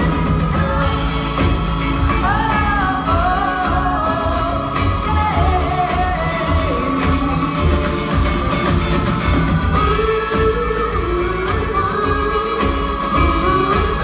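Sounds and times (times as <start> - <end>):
woman singing: 0.0 - 8.4, 9.8 - 14.0
drum kit: 0.0 - 14.0
electric guitar: 0.0 - 14.0
keyboards: 0.0 - 14.0
upright bass: 0.0 - 14.0.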